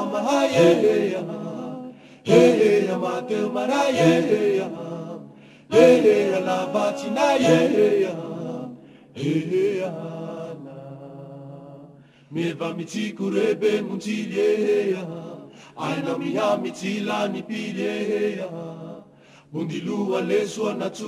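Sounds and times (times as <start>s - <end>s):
voices chanting a cappella: 0.0s - 21.0s.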